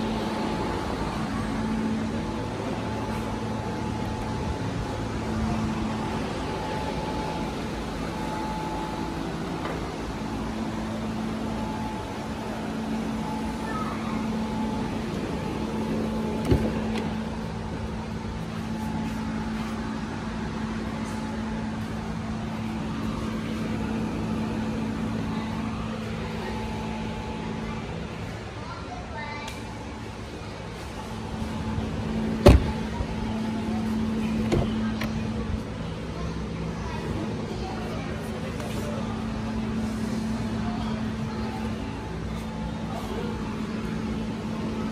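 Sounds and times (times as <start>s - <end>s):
mechanical hum: 0.0s - 44.9s.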